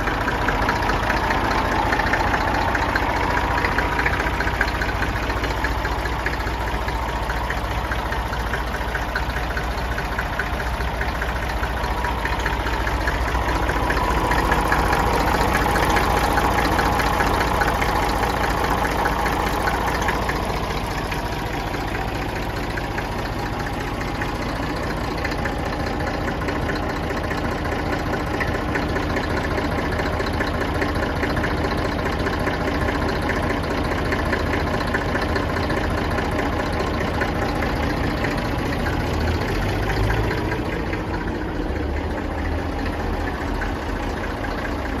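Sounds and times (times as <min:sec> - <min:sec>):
tractor engine idling: 0:00.0 - 0:45.0.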